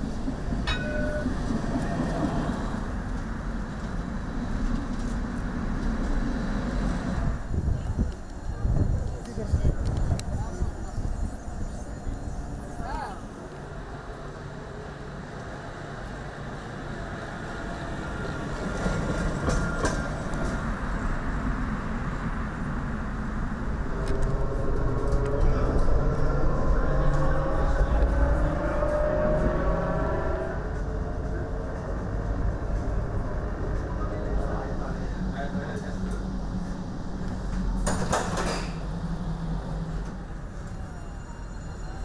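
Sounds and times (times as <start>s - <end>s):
tram rumbling past: 0.0s - 42.0s.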